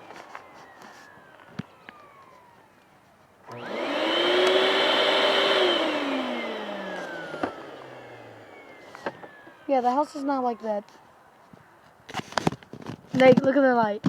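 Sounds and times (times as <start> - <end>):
vacuum cleaner motor whine: 0.0 - 13.3.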